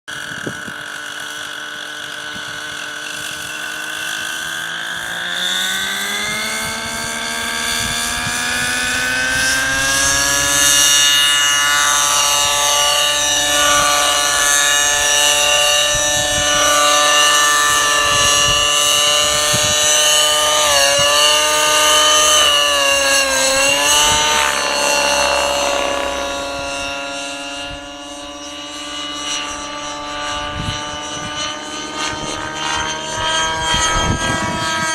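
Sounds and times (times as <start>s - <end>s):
model helicopter engine spooling up: 0.1s - 34.9s.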